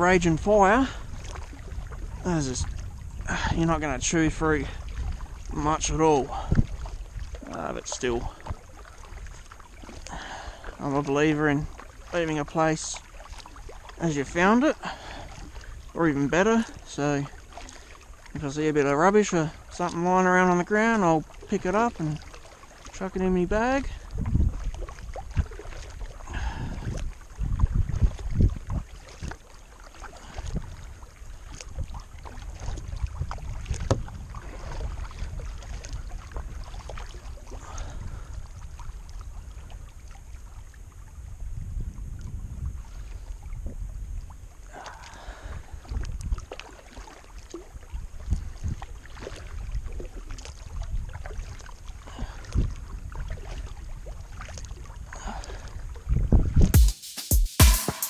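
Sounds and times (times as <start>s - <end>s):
paddle splashing in water: 0.0s - 56.7s
wind rumbling on microphone: 0.0s - 56.8s.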